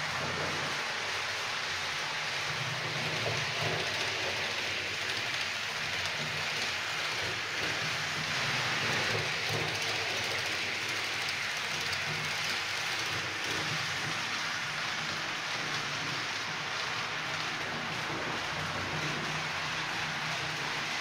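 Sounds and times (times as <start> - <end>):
model train wheels rattling: 2.2 - 21.0.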